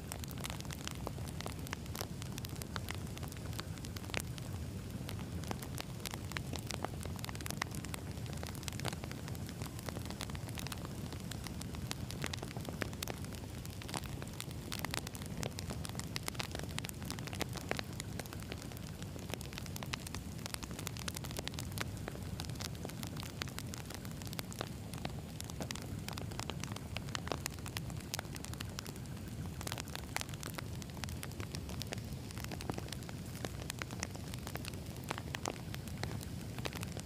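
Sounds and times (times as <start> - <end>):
logs crackling and popping: 0.0 - 37.0
rumble of flame: 0.0 - 37.0.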